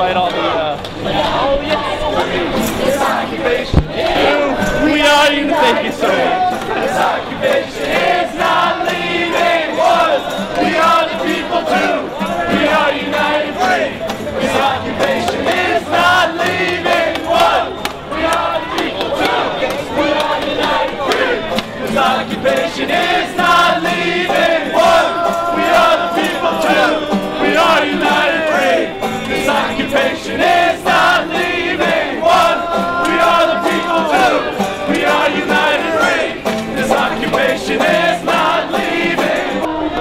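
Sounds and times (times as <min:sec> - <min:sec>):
crowd chanting and singing: 0:00.0 - 0:40.0.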